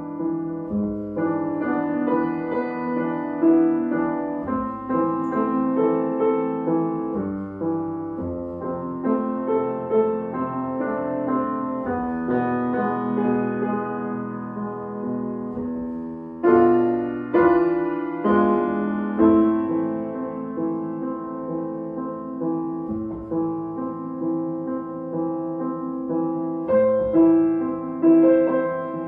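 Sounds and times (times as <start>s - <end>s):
solo piano: 0.0s - 29.0s.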